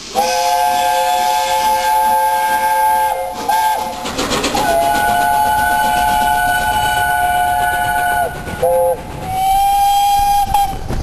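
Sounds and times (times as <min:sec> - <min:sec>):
steam locomotive whistle chime: 0:00.1 - 0:03.9, 0:04.6 - 0:10.8.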